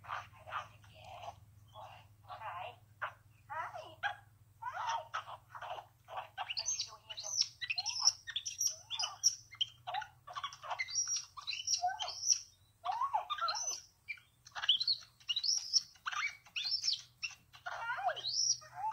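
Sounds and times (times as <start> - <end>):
monkey chirping and squeaking: 0.0 - 18.9.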